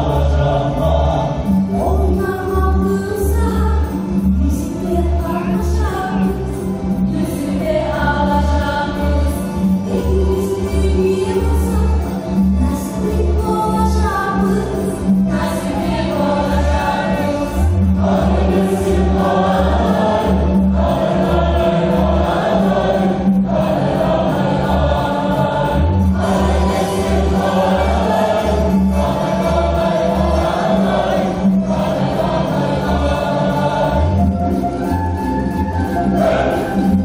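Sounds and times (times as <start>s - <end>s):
choir singing: 0.0s - 37.0s
dance music: 0.0s - 37.0s.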